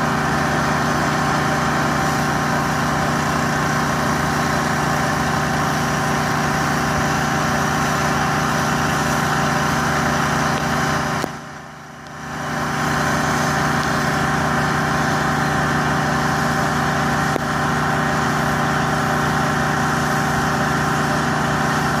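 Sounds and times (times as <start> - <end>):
pressure washer engine running: 0.0 - 22.0
water spray hissing: 0.0 - 22.0.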